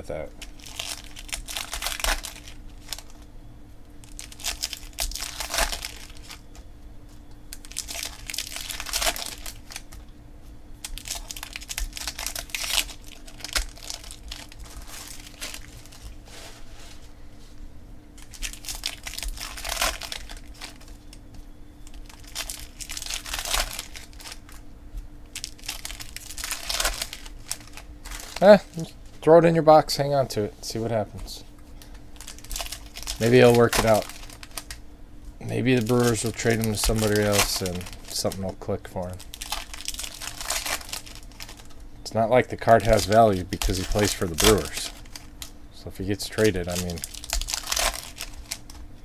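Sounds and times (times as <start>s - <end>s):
foil wrappers crinkling and tearing: 0.1s - 3.3s, 4.0s - 6.6s, 7.5s - 10.0s, 10.8s - 16.5s, 18.2s - 24.6s, 25.2s - 29.0s, 31.7s - 34.8s, 35.4s - 48.8s.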